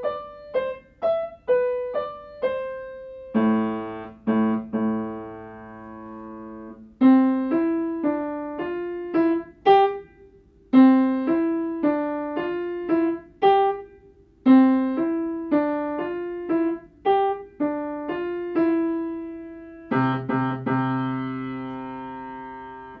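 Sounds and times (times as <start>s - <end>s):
piano playing: 0.0s - 23.0s.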